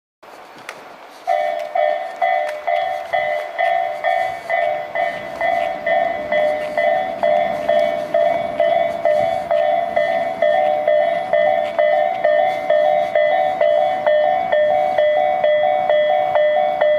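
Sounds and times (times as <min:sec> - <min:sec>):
level crossing alarm bells: 0:01.3 - 0:16.9.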